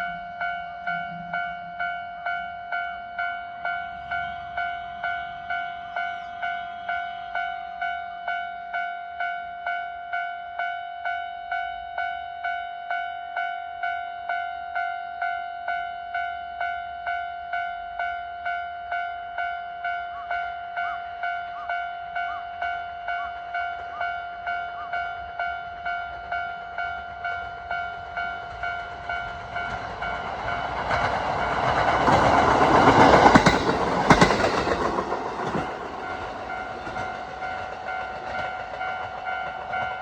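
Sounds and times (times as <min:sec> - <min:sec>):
level-crossing warning bell: 0:00.0 - 0:40.0.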